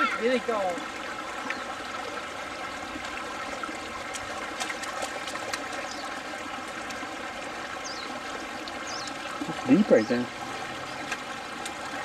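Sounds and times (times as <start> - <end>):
creek babbling: 0.0 - 12.0.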